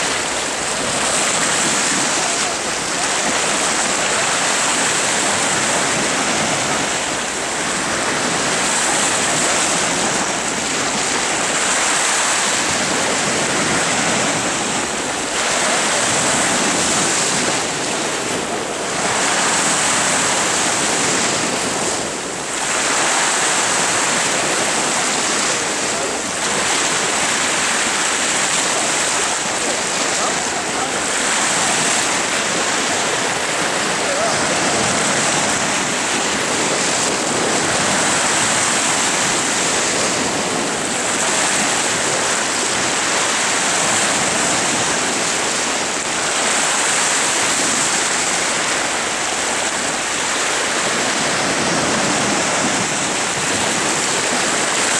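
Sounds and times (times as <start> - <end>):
sea surf washing on rocks: 0.0 - 54.9.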